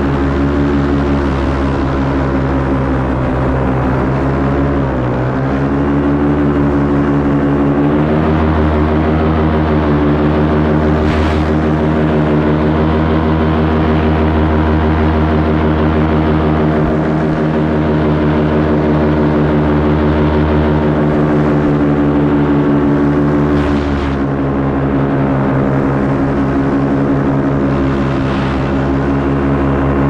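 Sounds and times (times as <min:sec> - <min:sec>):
paramotor engine and propeller: 0:00.0 - 0:30.0.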